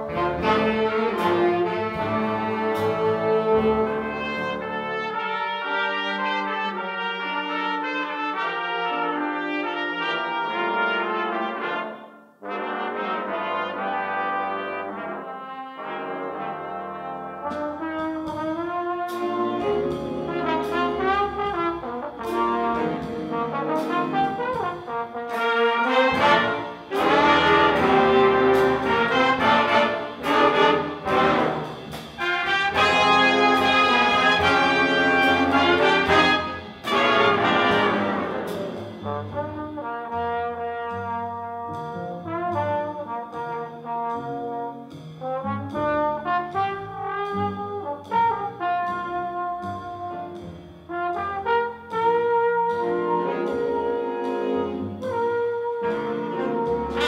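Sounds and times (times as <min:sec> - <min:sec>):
jazz big band playing: 0:00.0 - 0:57.0
trombone solo: 0:00.0 - 0:57.0.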